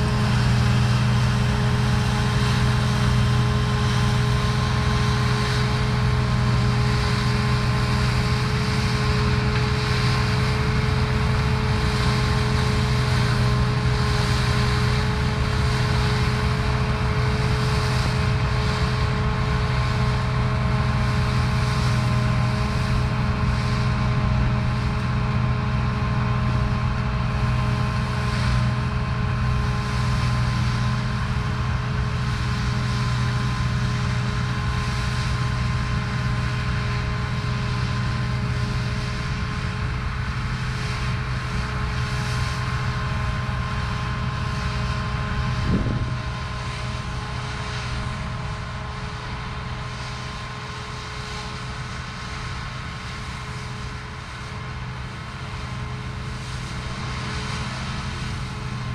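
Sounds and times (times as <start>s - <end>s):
combine harvester engine drone: 0.0s - 58.9s.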